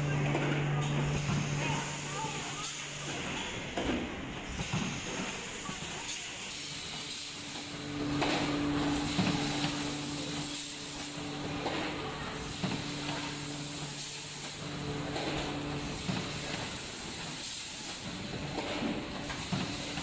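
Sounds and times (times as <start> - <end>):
packaging machine hiss and hum: 0.0 - 20.0.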